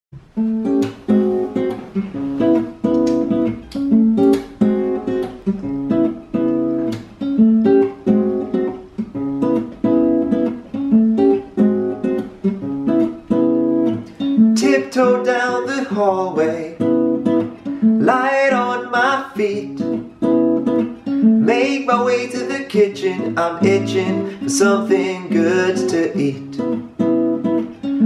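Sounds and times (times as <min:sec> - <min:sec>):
acoustic guitar strumming: 0:00.2 - 0:28.0.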